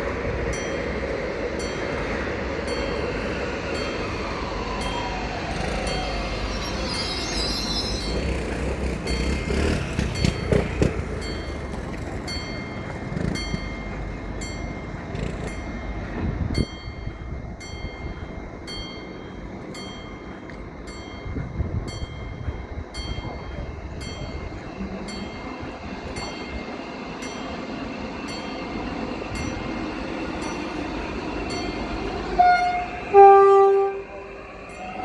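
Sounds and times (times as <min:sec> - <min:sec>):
train rumbling on rails: 0:00.0 - 0:35.0
wheels clicking on rail joints: 0:00.0 - 0:35.0.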